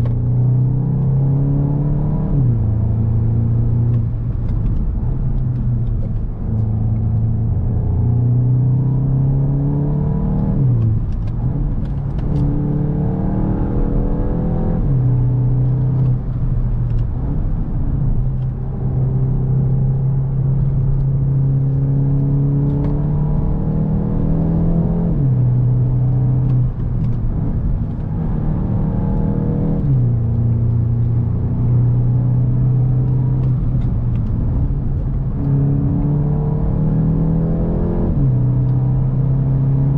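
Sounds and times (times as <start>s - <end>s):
car engine changing gears: 0.0s - 39.9s.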